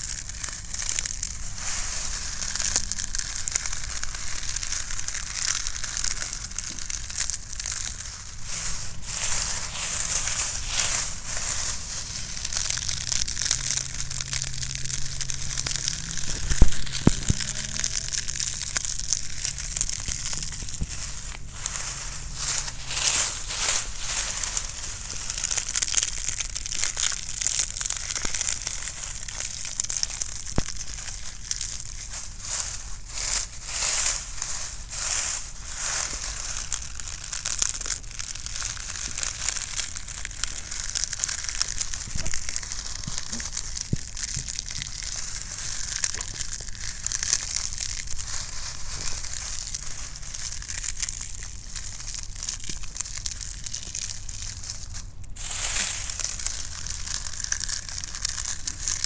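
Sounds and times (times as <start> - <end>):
dry leaves crunching: 0.0 - 59.0.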